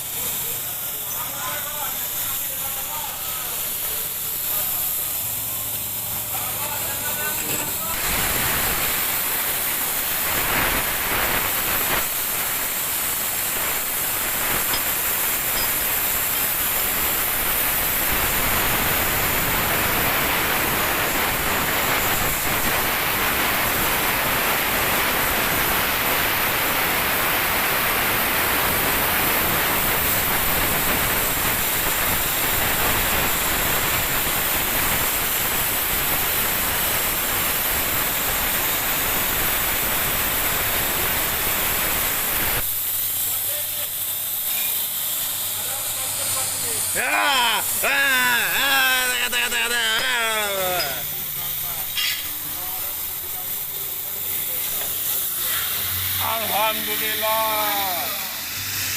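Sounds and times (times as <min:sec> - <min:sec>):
plasma cutter hissing: 0:00.0 - 0:58.9.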